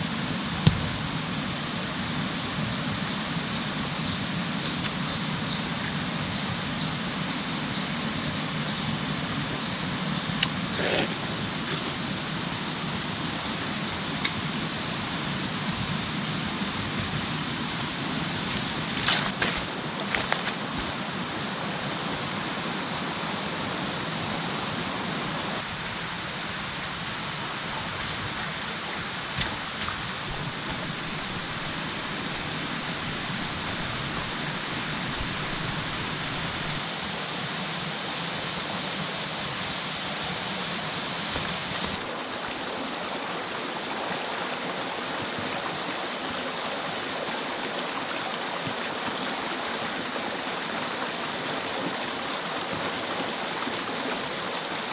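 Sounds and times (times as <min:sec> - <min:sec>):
stream running over stones: 0:09.3 - 0:54.9.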